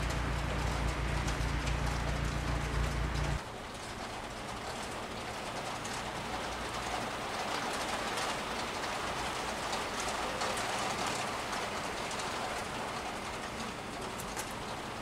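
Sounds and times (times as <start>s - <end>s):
low rumble of city traffic: 0.0s - 15.0s
steady rain falling: 0.0s - 15.0s.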